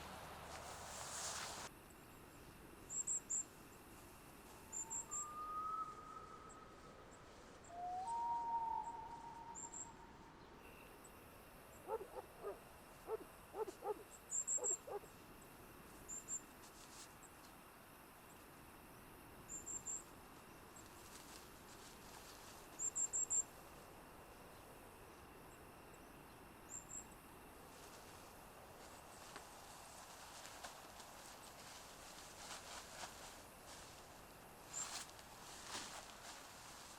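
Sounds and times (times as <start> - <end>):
faint outdoor hiss: 0.0 - 36.9.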